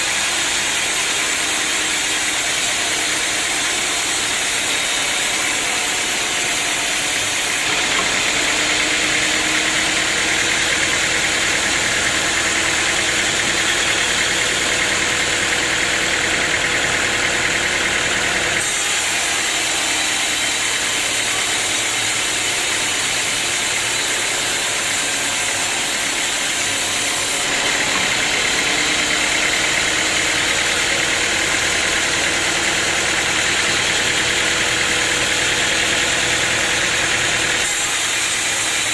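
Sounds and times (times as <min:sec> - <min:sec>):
sawmill machinery hissing and humming: 0:00.0 - 0:38.9.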